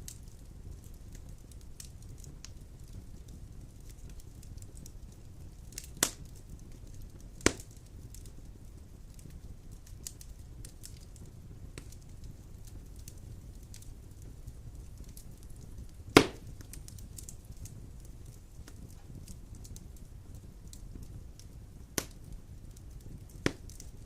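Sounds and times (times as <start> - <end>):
fire crackling in a fireplace: 0.0 - 24.0
loud fire pops: 0.0 - 24.0.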